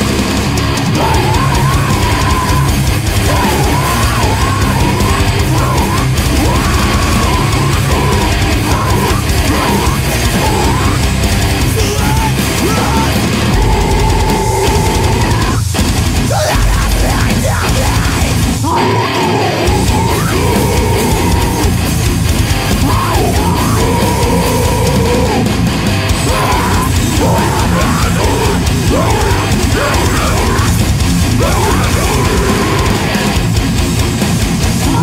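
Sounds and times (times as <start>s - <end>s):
distorted electric guitars: 0.0s - 35.0s
drum kit playing: 0.0s - 35.0s.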